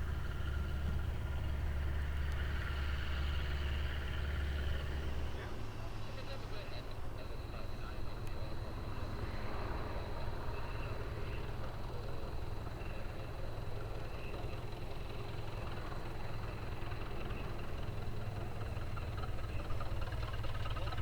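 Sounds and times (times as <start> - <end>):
aircraft piston engine droning: 0.0 - 21.0.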